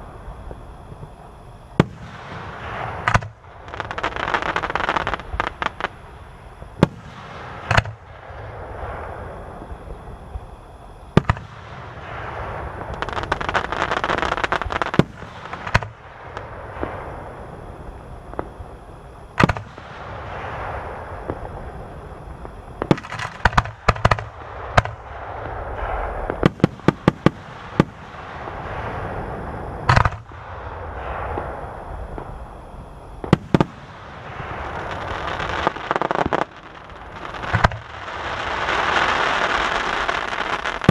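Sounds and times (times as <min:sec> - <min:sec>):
fireworks bangs: 0:00.0 - 0:40.9
fireworks crackling: 0:00.0 - 0:40.9.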